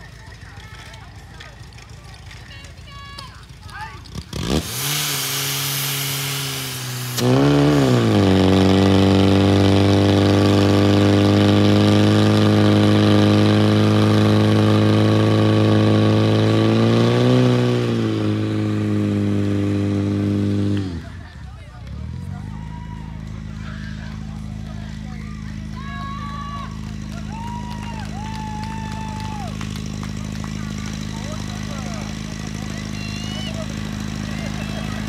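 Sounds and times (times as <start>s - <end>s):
pump engine starting and running: 0.0s - 35.0s.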